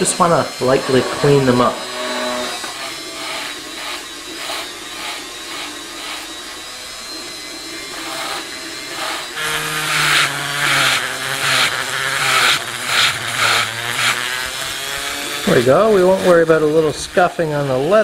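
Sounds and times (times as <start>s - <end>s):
rotary tool wire brush scrubbing: 0.0s - 18.0s.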